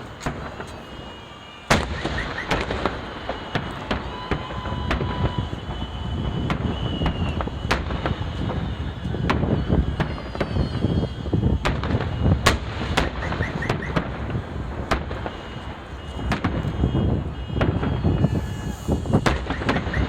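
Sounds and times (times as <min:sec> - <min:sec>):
fireworks bangs overhead: 0:00.0 - 0:20.0
low rumble of distant fireworks: 0:00.0 - 0:20.0.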